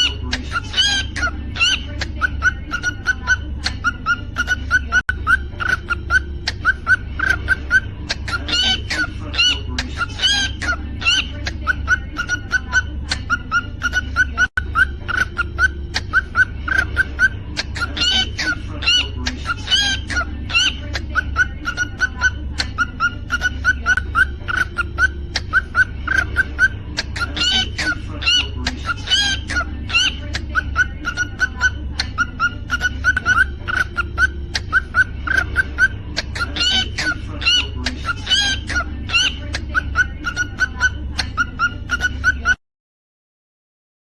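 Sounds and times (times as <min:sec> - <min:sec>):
cockatiel chirping: 0:00.0 - 0:42.6.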